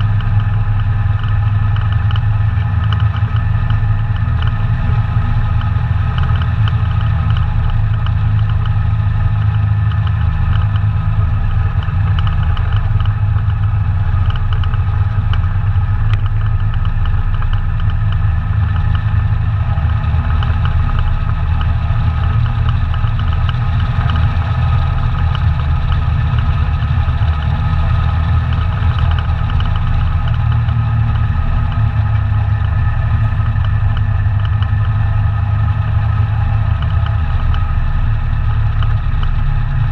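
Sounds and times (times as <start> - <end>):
quad bike engine rumbling: 0.0 - 39.9.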